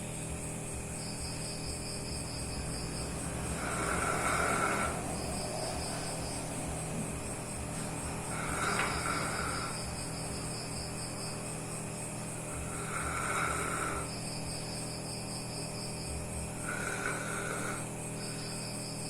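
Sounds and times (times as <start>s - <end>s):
dog snoring: 1.7s - 11.4s, 12.2s - 15.5s, 16.4s - 18.8s.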